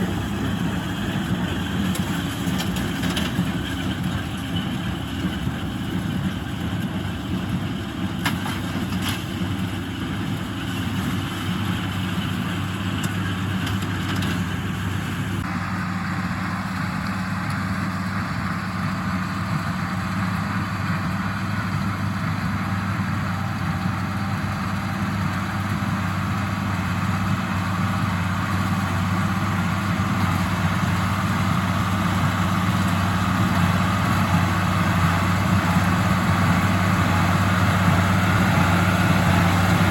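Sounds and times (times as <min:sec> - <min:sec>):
hay baler machinery: 0:00.0 - 0:39.9
tractor diesel engine running: 0:00.0 - 0:39.9.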